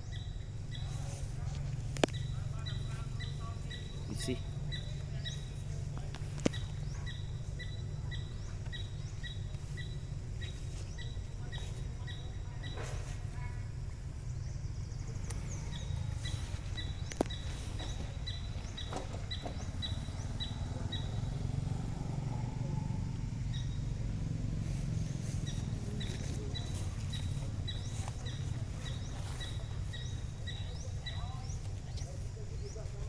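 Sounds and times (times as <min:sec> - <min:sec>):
bird chirping: 0:00.0 - 0:33.0
low outdoor rumble: 0:00.0 - 0:33.0.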